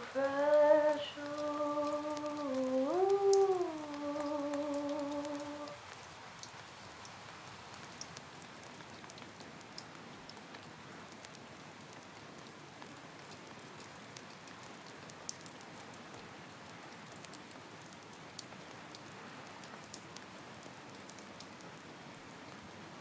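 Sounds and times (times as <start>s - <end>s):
sharp rain ticks: 0.0s - 22.9s
steady rain: 0.0s - 23.0s.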